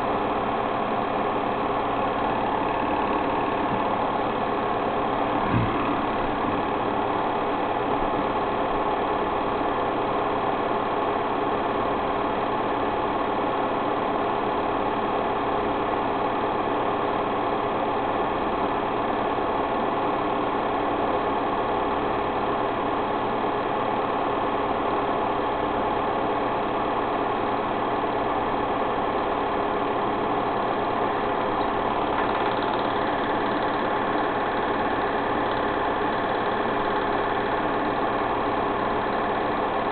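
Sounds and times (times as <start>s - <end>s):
machine running noise: 0.0s - 39.9s.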